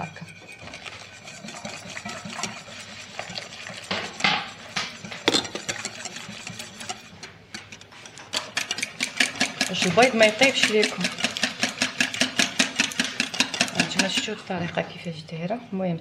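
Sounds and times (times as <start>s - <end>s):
whisk clattering in ceramic bowl: 0.0s - 14.7s.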